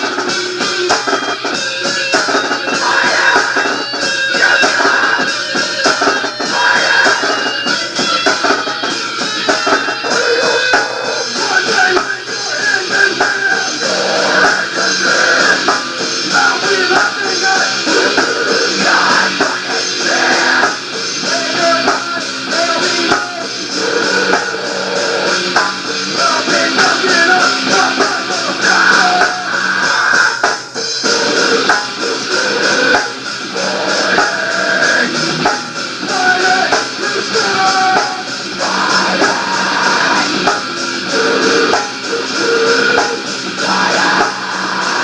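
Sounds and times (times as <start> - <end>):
rock band guitar and drums: 0.0 - 45.0.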